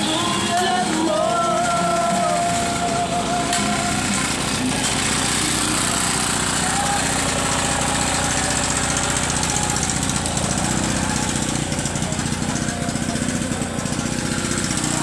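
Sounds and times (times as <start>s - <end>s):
faint voices: 0.0s - 15.0s
machine chugging steadily: 0.0s - 15.0s.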